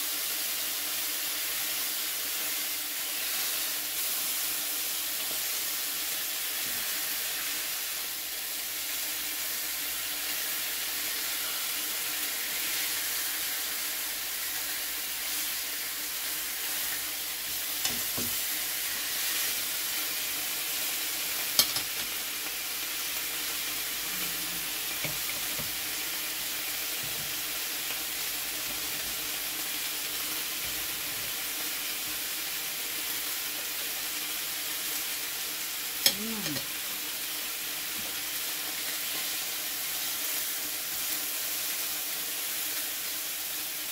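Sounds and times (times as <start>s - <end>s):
meat sizzling in a pan: 0.0s - 43.9s.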